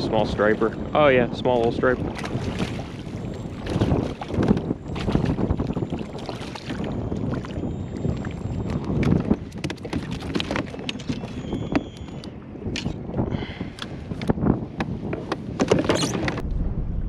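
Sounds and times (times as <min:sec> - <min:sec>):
water moving around a kayak: 0:00.0 - 0:16.4
wind buffeting the microphone: 0:00.0 - 0:17.0.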